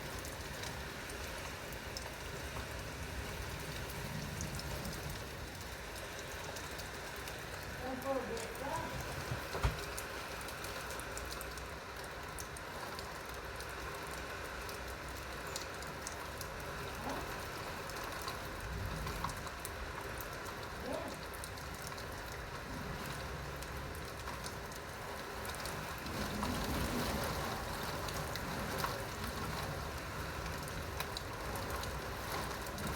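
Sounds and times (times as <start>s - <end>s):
rain pattering: 0.0s - 32.9s.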